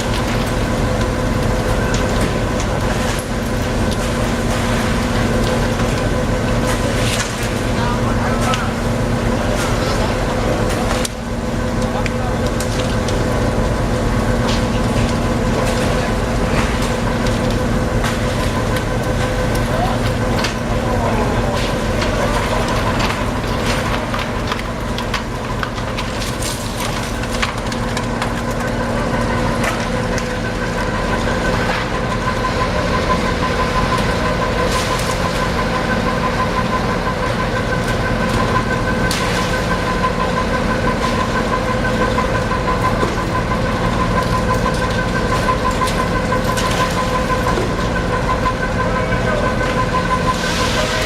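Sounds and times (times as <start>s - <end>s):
machinery droning and whining: 0.0s - 51.0s.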